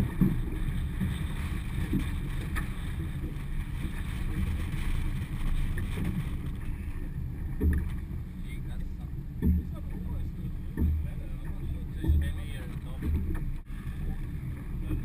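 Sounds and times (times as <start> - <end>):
boat bump: 0.0 - 15.0
water slapping boat hull: 0.0 - 15.0
wind rumbling on microphone: 0.0 - 15.0.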